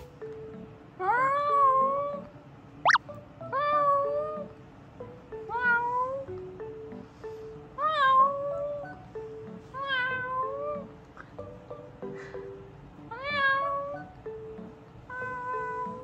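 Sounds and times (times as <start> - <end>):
light background music: 0.0 - 16.0.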